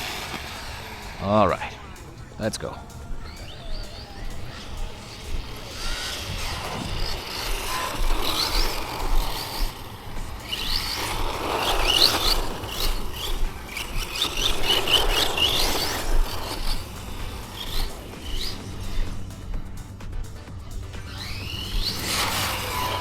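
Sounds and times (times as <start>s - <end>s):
birds chirping: 0.0s - 23.0s
electric rc car motor and tyres: 0.0s - 23.0s.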